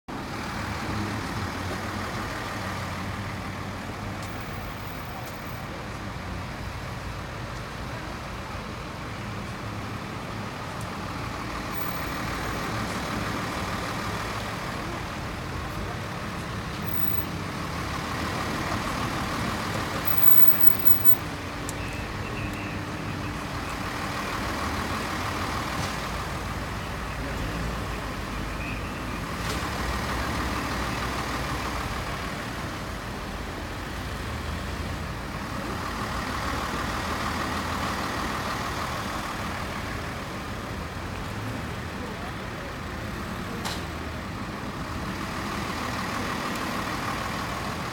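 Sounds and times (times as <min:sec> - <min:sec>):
motor vehicles passing: 0:00.1 - 0:47.9.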